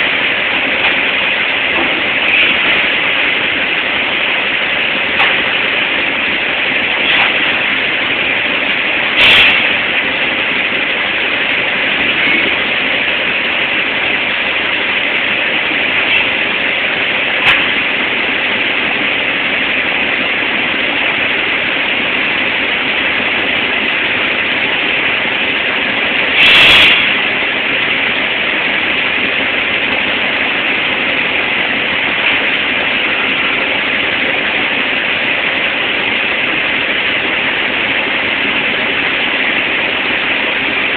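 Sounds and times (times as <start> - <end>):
steel mill industrial din: 0.0 - 40.9.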